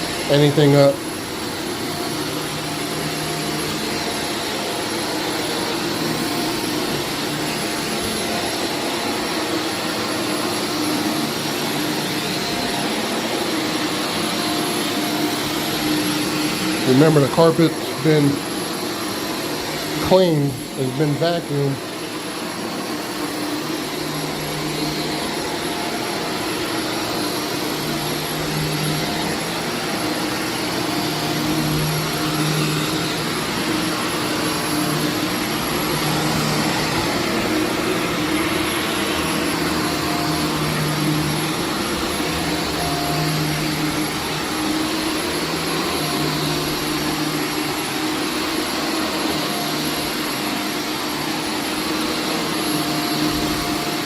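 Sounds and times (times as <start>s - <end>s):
carpet extractor suction and hum: 0.0s - 54.0s.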